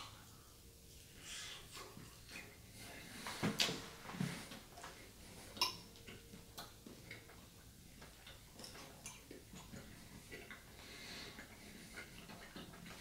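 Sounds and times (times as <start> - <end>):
quiet chewing: 0.0 - 13.0.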